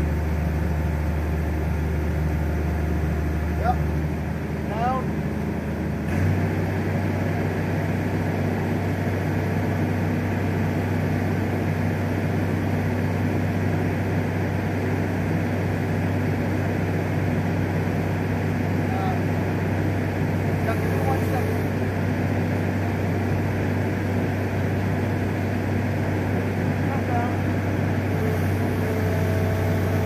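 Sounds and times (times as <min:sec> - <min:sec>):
machine engine droning: 0:00.0 - 0:30.0.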